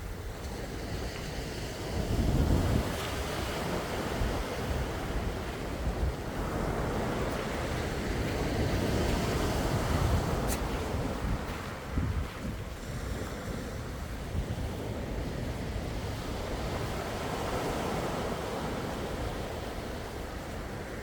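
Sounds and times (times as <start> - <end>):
sea waves washing in: 0.0 - 21.0
wind rumble on microphone: 0.0 - 21.0.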